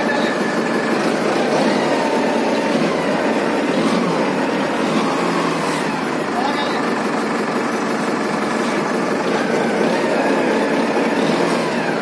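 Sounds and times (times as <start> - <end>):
machinery running: 0.0 - 12.0.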